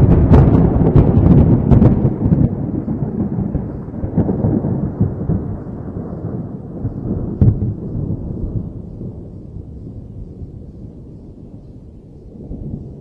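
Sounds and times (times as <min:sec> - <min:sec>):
sharp thunder crack: 0:00.0 - 0:10.7
thunder rumbling: 0:00.0 - 0:13.0.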